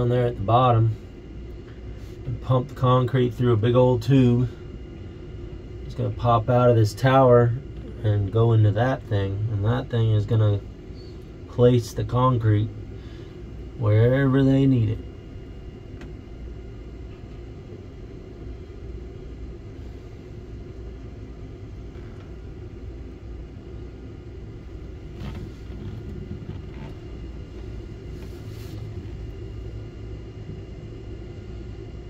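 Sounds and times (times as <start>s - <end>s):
faint steady hum: 0.0s - 32.0s
steady low rumble: 0.0s - 32.0s.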